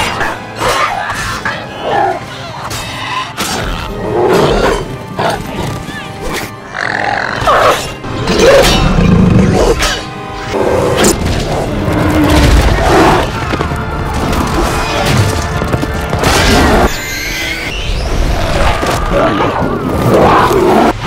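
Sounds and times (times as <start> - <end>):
film battle music: 0.0 - 21.0.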